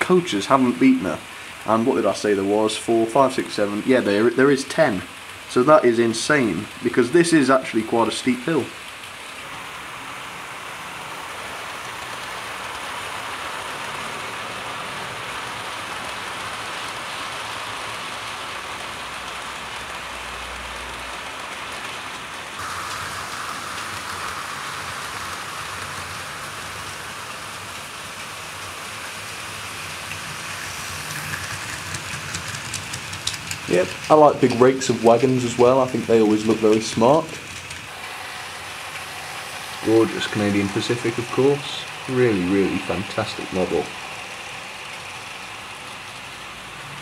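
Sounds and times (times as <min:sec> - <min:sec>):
model train wheels hissing: 0:00.0 - 0:47.0
locomotive motors whirring: 0:08.8 - 0:47.0.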